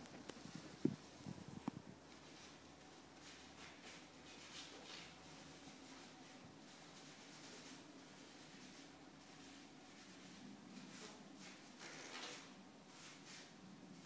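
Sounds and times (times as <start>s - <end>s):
low room hum: 0.0s - 14.0s
paintbrush strokes on canvas: 2.0s - 14.0s.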